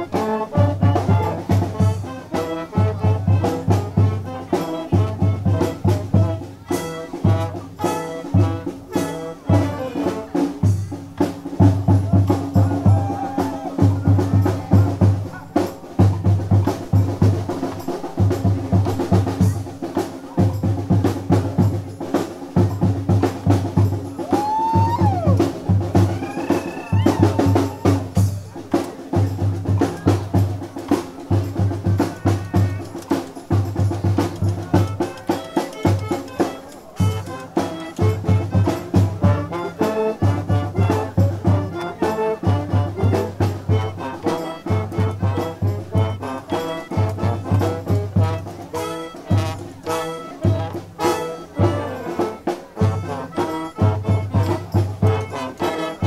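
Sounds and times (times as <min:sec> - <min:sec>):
trumpets and trombones playing: 0:00.0 - 0:19.0, 0:23.1 - 0:28.4, 0:34.4 - 0:56.0
bass drum and percussion: 0:00.0 - 0:56.0.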